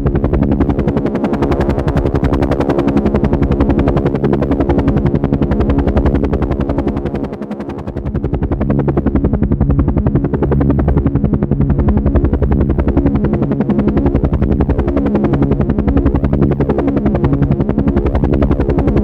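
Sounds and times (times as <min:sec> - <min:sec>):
helicopter rotor blades chopping: 0:00.0 - 0:19.0
turbine drone: 0:00.0 - 0:19.0.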